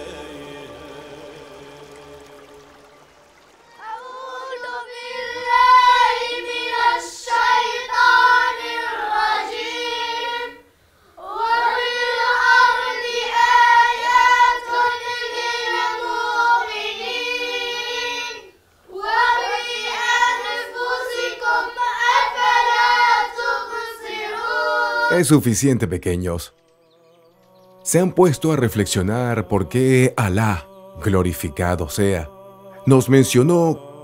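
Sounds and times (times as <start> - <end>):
boys chanting in unison: 0.0 - 3.0, 3.7 - 25.3, 27.3 - 34.0.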